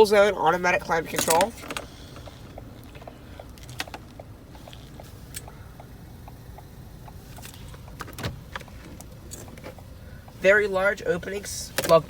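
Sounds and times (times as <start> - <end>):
low steady rumble: 0.0 - 12.0
light clicks and knocks: 1.1 - 10.4, 11.6 - 12.0.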